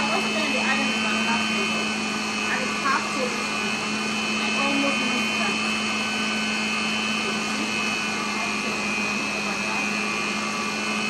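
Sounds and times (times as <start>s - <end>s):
electric stand mixer running: 0.0s - 11.0s.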